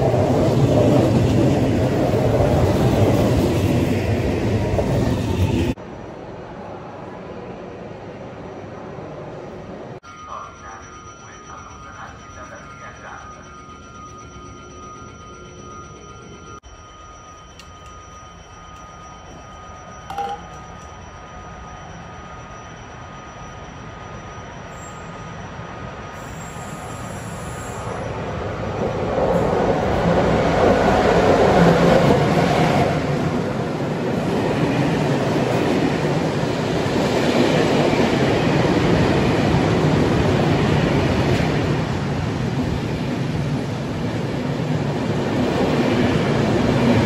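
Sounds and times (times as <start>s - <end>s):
freight train passing: 0.0s - 47.0s.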